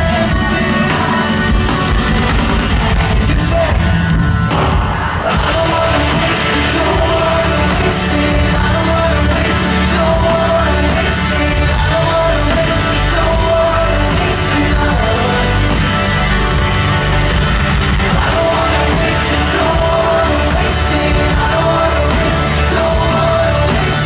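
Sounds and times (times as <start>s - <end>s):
lead vocal singing: 0.0s - 24.0s
live pop-rock band: 0.0s - 24.0s.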